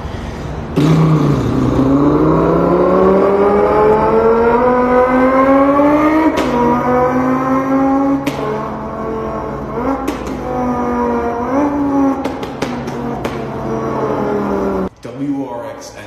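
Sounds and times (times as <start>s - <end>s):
man imitating car engine: 0.3s - 14.9s.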